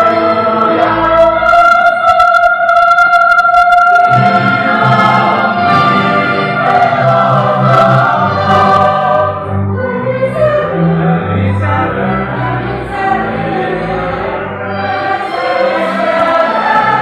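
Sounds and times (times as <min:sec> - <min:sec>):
mixed choir singing a hymn: 0:00.0 - 0:17.0.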